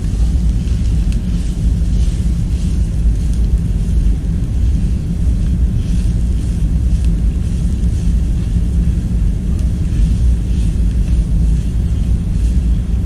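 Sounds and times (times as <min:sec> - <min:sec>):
deep ambient rumble: 0:00.0 - 0:13.0.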